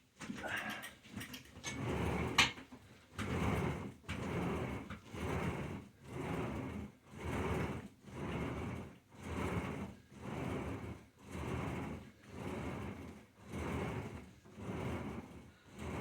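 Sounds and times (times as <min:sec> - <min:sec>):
bench carriage rolling on rails: 0:00.5 - 0:16.0.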